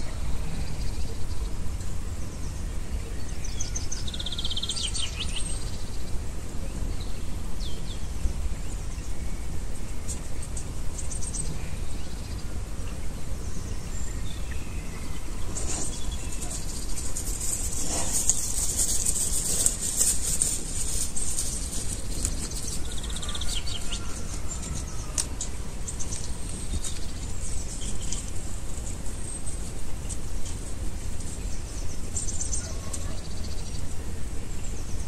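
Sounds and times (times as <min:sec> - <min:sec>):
birds chirping: 0:00.0 - 0:30.2
hiss and rustling: 0:00.0 - 0:35.0.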